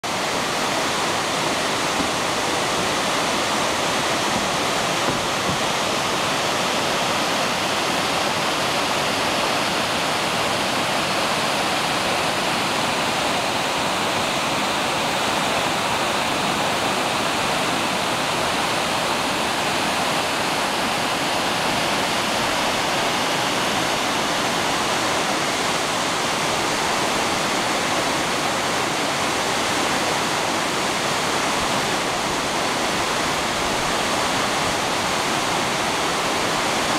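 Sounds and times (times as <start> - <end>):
water rushing over dam spillway: 0.0 - 36.9.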